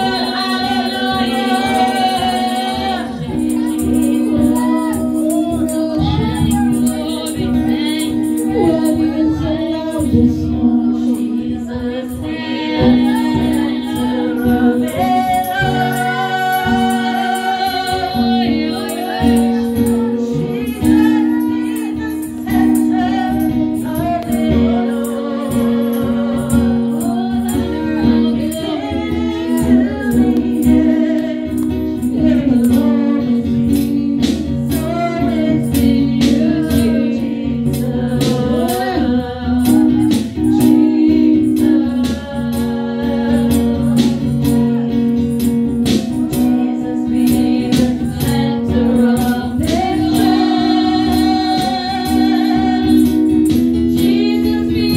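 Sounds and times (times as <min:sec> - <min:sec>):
steady percussion beat: 0:00.0 - 0:54.9
woman singing gospel song: 0:00.0 - 0:54.9.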